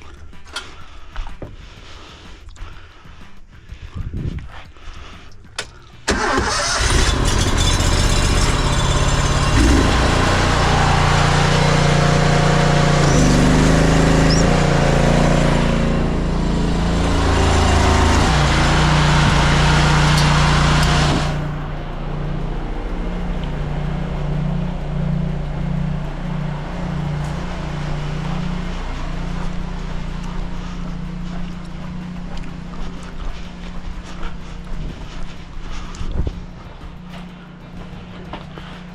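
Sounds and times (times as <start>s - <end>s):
engine starting and running: 0.0s - 2.4s, 5.0s - 38.9s.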